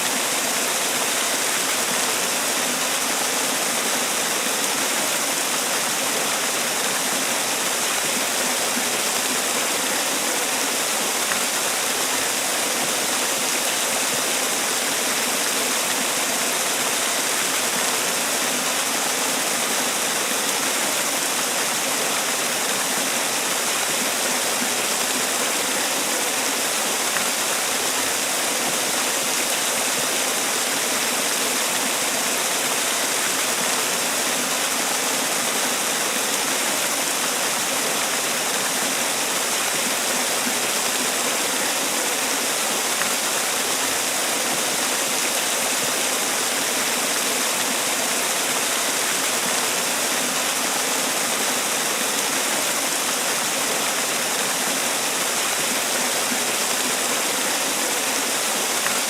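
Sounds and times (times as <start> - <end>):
waterfall splashing: 0.0 - 59.0.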